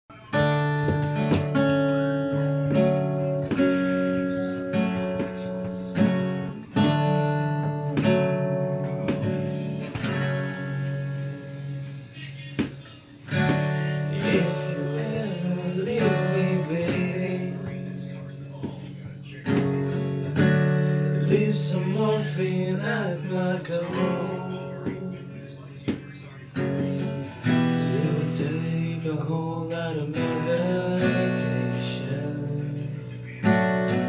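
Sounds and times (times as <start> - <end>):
acoustic guitar chords: 0.1 - 34.0.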